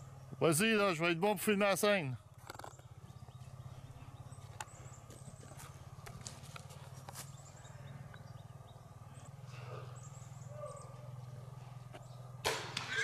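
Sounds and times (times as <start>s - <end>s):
low hum: 2.1s - 13.0s.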